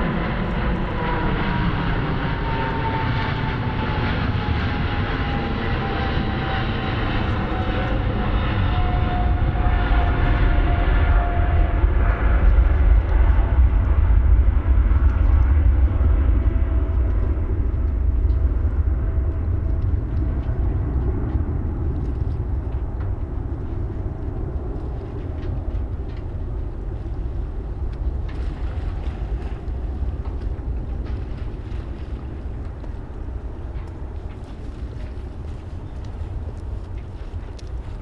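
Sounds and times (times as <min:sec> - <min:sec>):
jet engines rumbling with whine: 0:00.0 - 0:38.0.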